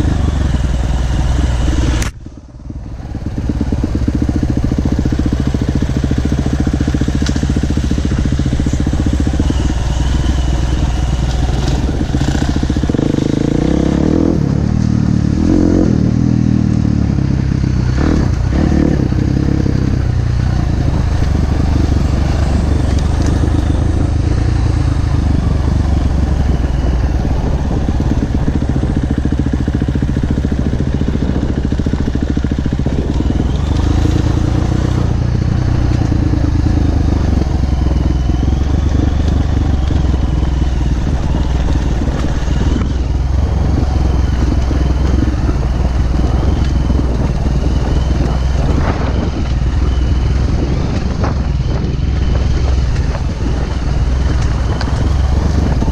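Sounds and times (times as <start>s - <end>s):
motorcycle engine at low revs: 0.0s - 55.9s.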